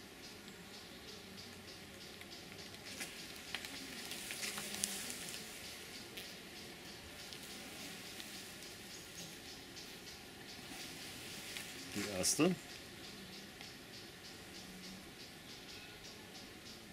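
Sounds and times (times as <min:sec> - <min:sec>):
faint hum of honeybees: 0:00.0 - 0:16.9.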